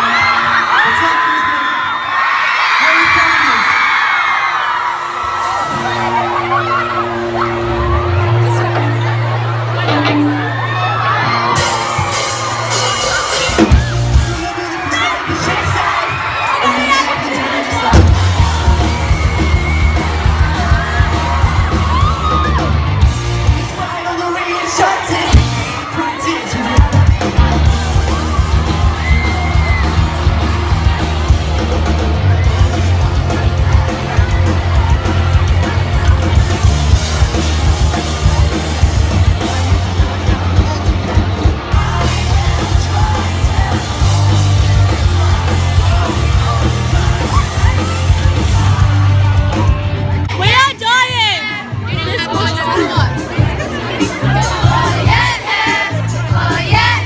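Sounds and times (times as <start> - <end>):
fans yelling and singing along: 0.0 - 57.0
live pop-rock band playing: 0.0 - 57.0.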